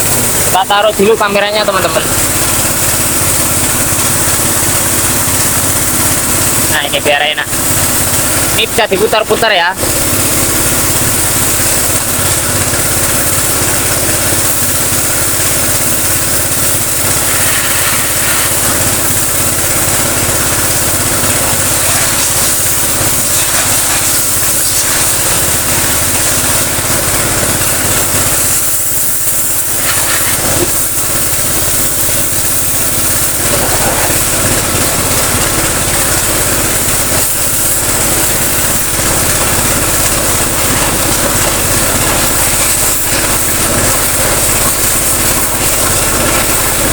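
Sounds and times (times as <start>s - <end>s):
pump running steadily: 0.0s - 46.9s
water jet hissing: 0.0s - 46.9s.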